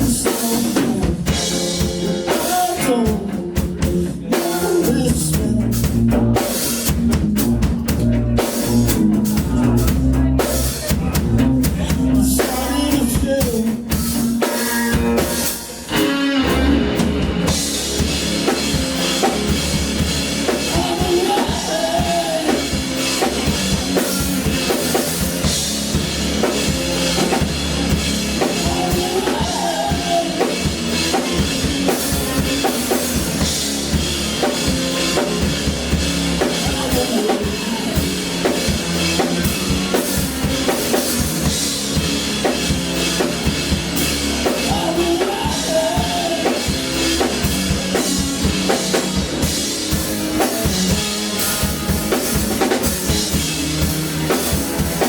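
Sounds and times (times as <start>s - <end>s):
bass drum and snare: 0.0s - 55.0s
live band playing: 0.0s - 55.0s.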